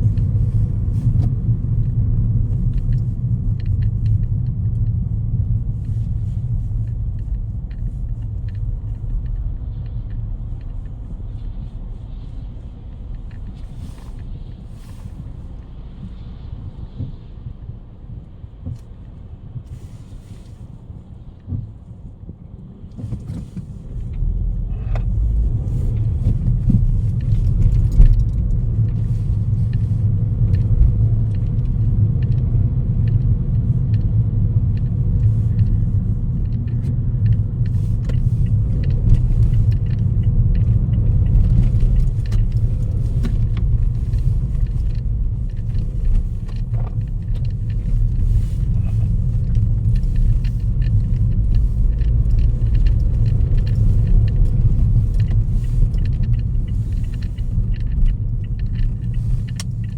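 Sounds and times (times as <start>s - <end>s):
light ticks: 0.0s - 17.7s, 21.4s - 59.9s.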